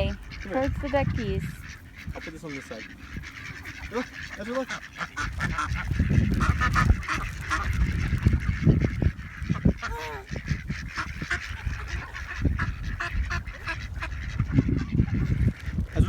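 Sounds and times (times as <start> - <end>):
ducks quacking: 0.0 - 16.0
geese honking: 0.0 - 16.0.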